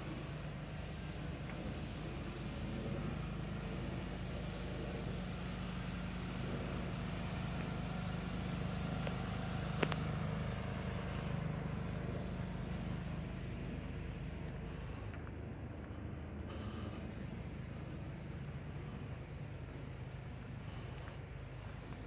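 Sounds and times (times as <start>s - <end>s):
pressure washer engine drone: 0.0s - 22.0s.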